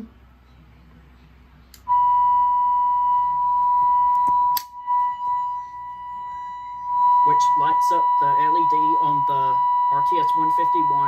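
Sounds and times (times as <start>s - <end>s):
high-pitched alarm beep: 1.9s - 11.0s.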